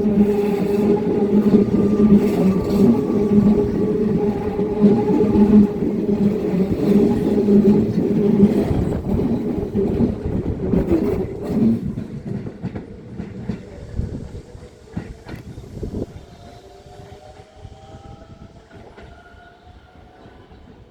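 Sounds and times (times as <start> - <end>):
train wheels clicking over rail joints: 0.0 - 17.7.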